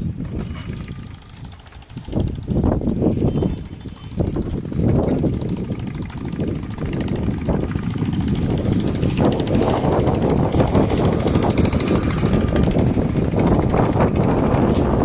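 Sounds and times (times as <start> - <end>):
construction machinery engine rattling: 0.0 - 15.0.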